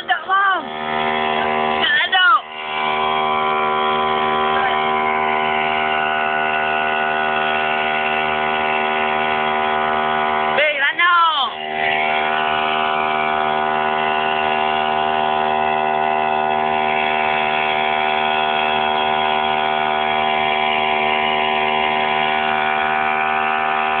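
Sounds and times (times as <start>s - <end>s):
brush cutter engine buzzing: 0.0s - 24.0s.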